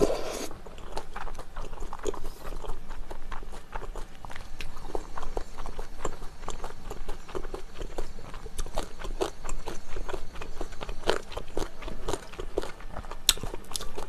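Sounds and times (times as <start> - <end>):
person chewing noodles: 0.0 - 14.0.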